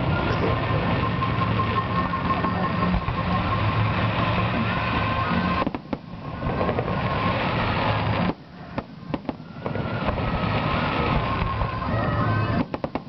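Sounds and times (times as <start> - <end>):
firework shells bursting: 0.4 - 11.8, 12.5 - 13.0.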